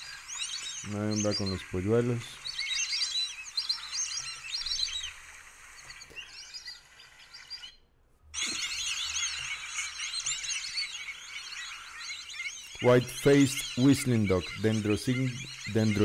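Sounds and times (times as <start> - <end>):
ducks whistling: 0.0 - 16.0.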